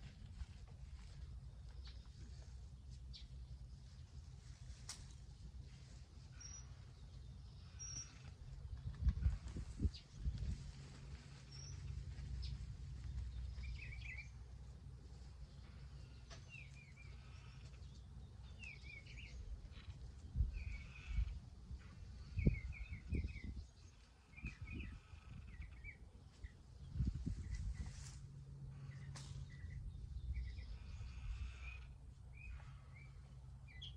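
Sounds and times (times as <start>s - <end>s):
songbird chirping: 0.4s - 33.9s.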